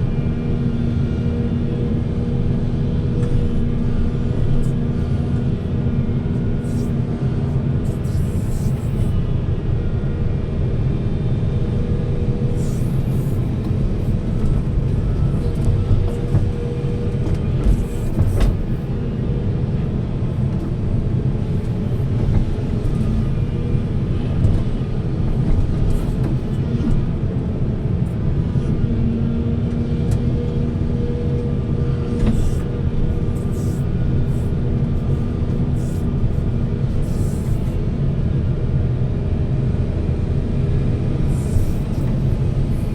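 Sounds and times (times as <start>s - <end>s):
diesel machinery rumbling: 0.0s - 42.9s.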